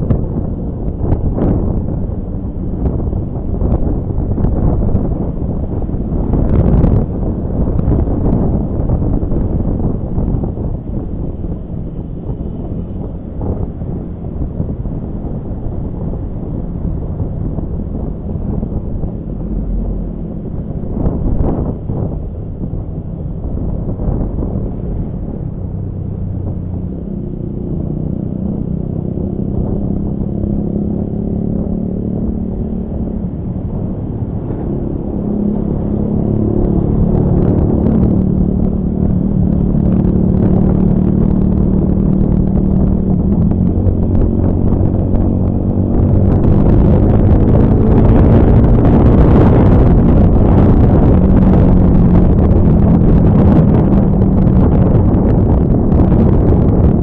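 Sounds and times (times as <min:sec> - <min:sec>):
road noise: 0:00.0 - 0:57.0
wind noise: 0:00.0 - 0:57.0.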